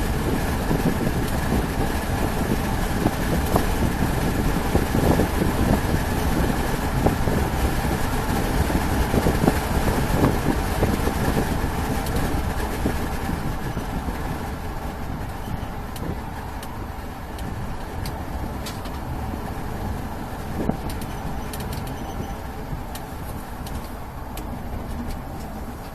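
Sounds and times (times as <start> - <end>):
car engine: 0.0 - 25.9
road noise: 0.0 - 25.9.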